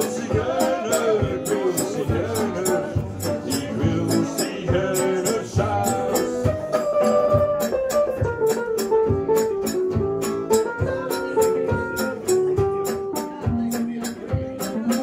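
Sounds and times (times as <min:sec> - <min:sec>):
guitars strumming: 0:00.0 - 0:15.0
live band playing chanson: 0:00.0 - 0:15.0.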